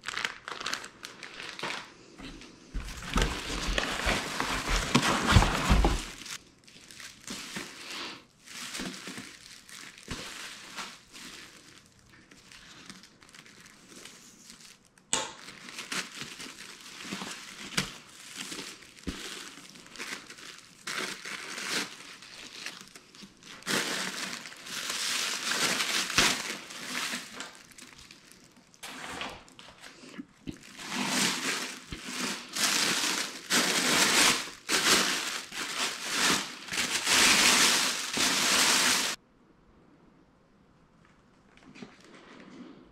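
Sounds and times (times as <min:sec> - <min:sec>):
fabric and plastic rustling: 0:00.0 - 0:39.2, 0:41.0 - 0:42.9
thin plastic bag crinkling: 0:00.0 - 0:39.2.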